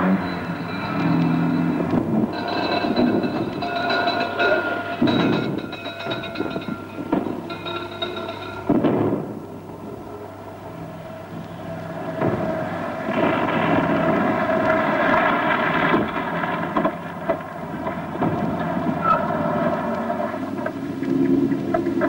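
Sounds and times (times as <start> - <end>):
lorry engine running: 0.0 - 22.0.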